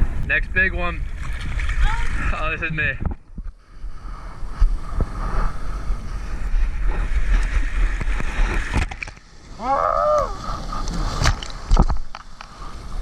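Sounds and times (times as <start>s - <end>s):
wind buffeting camera: 0.0s - 13.0s
ocean water churning: 1.0s - 2.8s, 3.6s - 13.0s.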